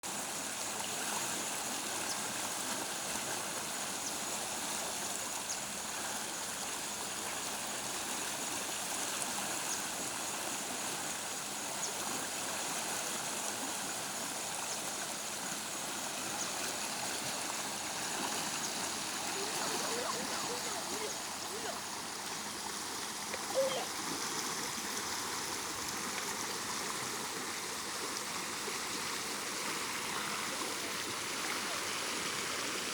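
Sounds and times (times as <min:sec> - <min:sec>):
stream water rushing: 0:00.0 - 0:32.9.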